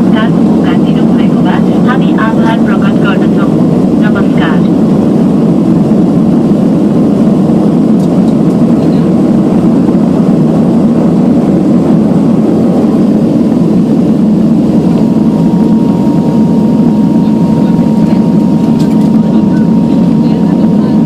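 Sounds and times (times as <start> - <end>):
faint steady whine: 0.0 - 21.0
turboprop engines drone in cabin: 0.0 - 21.0.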